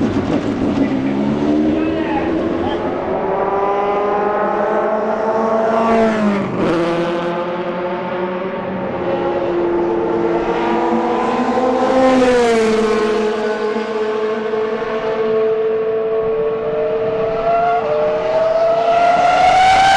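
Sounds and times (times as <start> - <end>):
racing car engines passing at speed: 0.0 - 19.9.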